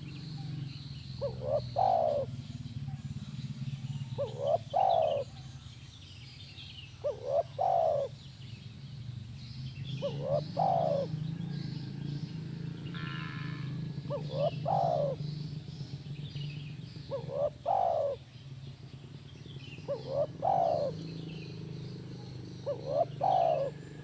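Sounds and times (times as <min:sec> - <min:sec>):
dove cooing: 0:00.0 - 0:05.7, 0:07.0 - 0:08.2, 0:09.9 - 0:18.3, 0:19.5 - 0:24.0.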